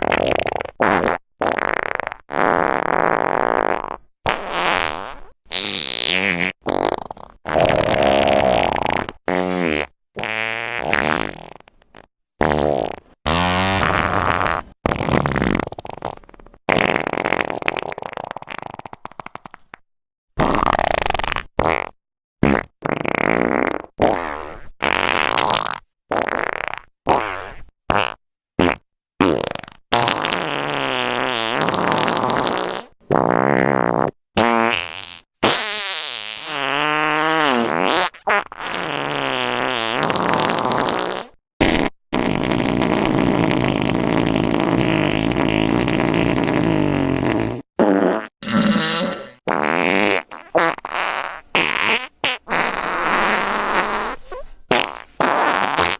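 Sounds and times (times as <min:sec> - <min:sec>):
fart sounds: 0:00.0 - 0:19.8, 0:20.4 - 0:55.9.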